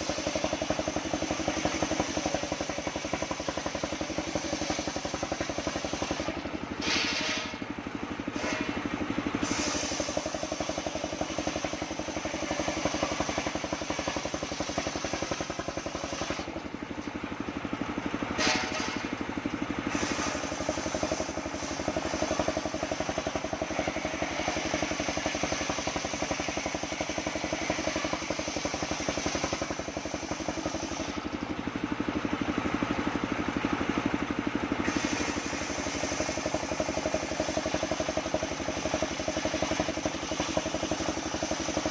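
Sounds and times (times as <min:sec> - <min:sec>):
sawmill engine running: 0:00.0 - 0:41.9.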